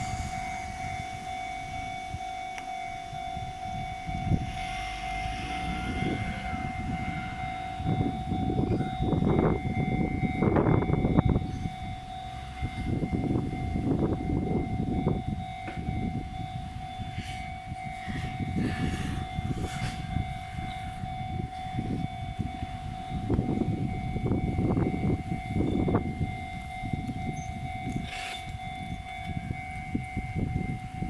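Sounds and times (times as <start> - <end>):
level-crossing alarm ringing: 0.0 - 31.0
low rumbling: 0.0 - 31.0.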